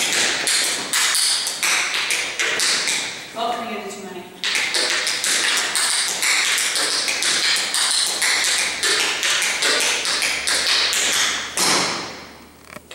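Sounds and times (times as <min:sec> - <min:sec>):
loud foot stamp: 0:00.0 - 0:03.2, 0:04.4 - 0:12.4
tap shoes tapping on hard floor: 0:00.0 - 0:03.2, 0:04.4 - 0:12.2.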